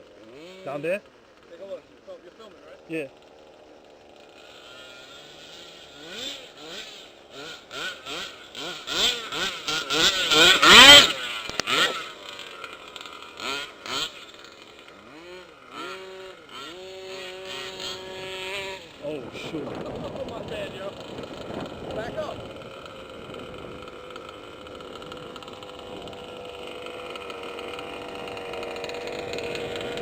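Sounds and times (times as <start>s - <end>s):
small two-stroke engine revving: 0.0s - 30.0s.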